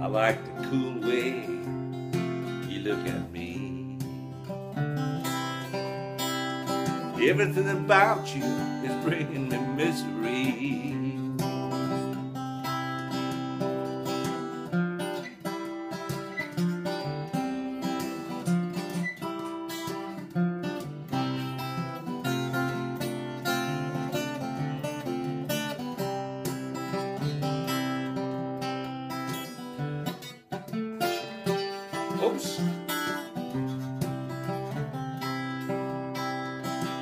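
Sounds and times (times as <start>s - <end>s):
acoustic guitar picking: 0.0s - 37.0s.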